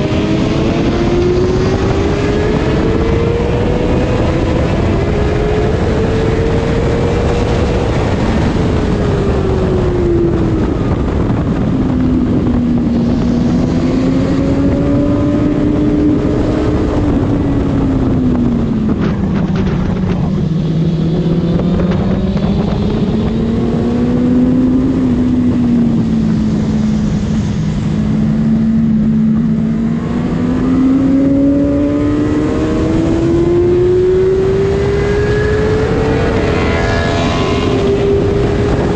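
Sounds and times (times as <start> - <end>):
motorcycle engine running hard: 0.0 - 38.9
wind noise rushing: 0.0 - 38.9.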